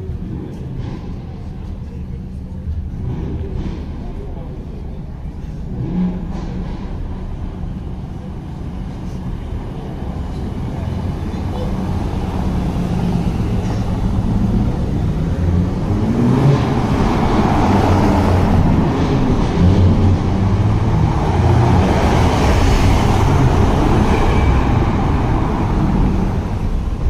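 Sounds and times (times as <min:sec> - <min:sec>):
sports car engines passing: 0:00.0 - 0:27.0.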